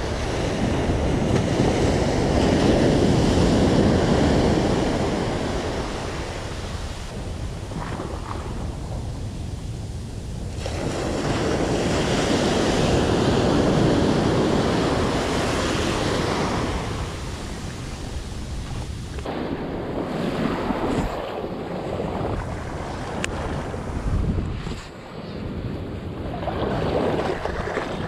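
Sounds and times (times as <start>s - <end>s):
ocean surf washing up beach: 0.0s - 28.0s.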